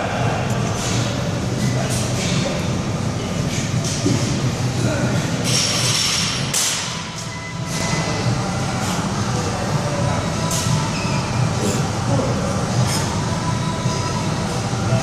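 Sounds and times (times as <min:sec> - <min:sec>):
gym hall rumble: 0:00.0 - 0:15.0.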